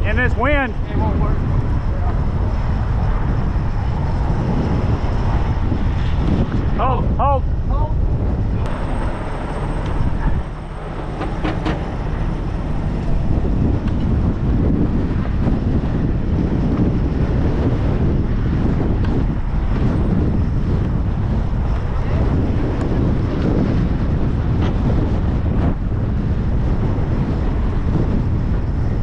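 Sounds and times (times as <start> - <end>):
strong wind on microphone: 0.0 - 29.0.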